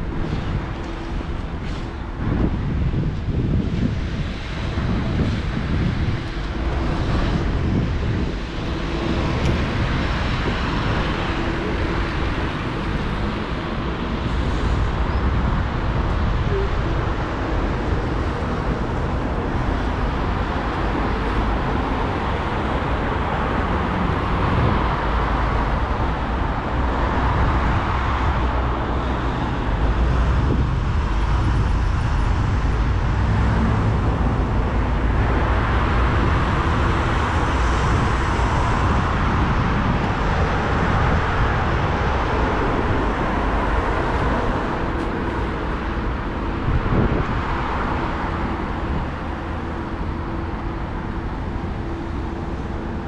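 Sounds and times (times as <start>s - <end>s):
cars passing: 0.0s - 53.0s
rumble of engines and tyres: 0.0s - 53.0s.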